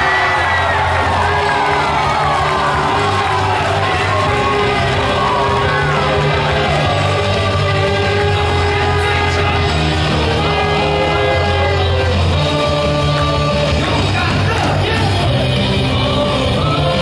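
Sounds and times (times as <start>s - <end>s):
cheer song over loudspeakers: 0.0s - 17.0s
crowd singing and shouting: 0.0s - 17.0s.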